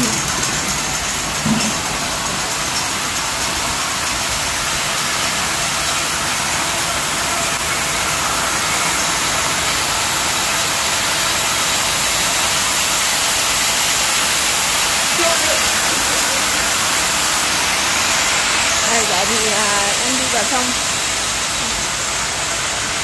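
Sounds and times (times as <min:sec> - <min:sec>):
braiding machines running: 0:00.0 - 0:23.0.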